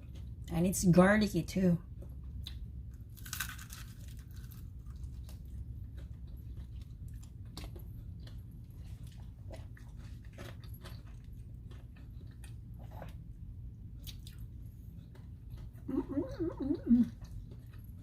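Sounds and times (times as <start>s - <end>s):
steady low hum: 0.0s - 18.0s
person chewing wetly: 2.0s - 18.0s.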